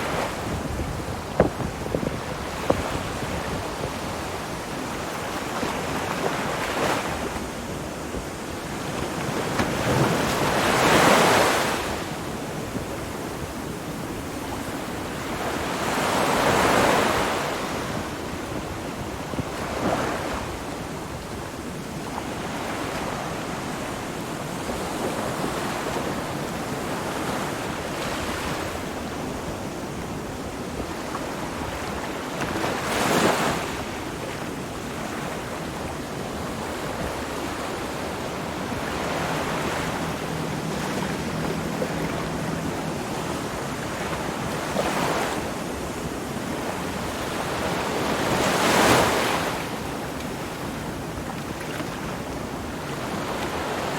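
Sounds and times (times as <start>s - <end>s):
ocean waves washing on shore: 0.0s - 53.9s.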